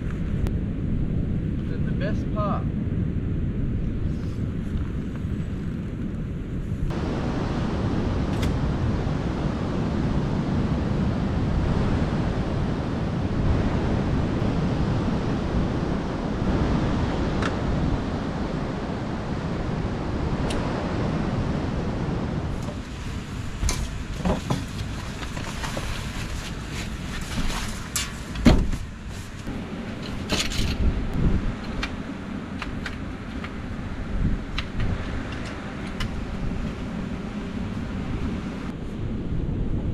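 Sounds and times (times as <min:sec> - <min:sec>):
wind: 0:00.0 - 0:39.9
surf on a beach: 0:06.9 - 0:39.9.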